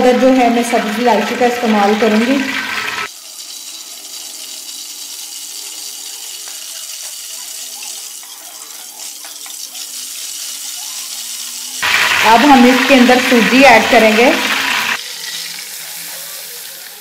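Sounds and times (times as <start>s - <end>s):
spices sizzling in oil: 0.0s - 17.0s.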